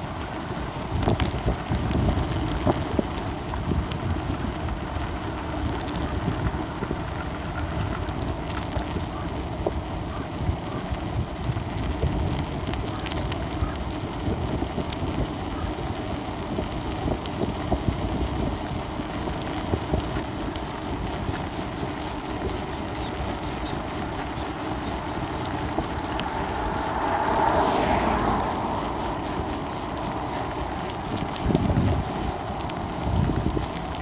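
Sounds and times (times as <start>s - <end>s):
road rumble: 0.0s - 34.0s
wind buffeting microphone: 0.0s - 34.0s.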